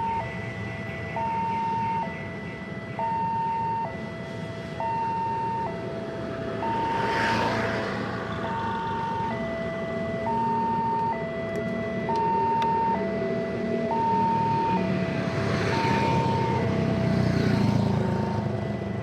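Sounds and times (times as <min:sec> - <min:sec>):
two-tone level crossing alarm: 0:00.0 - 0:05.9, 0:06.6 - 0:07.2, 0:08.4 - 0:19.0
traffic idling and rumbling: 0:00.0 - 0:19.0.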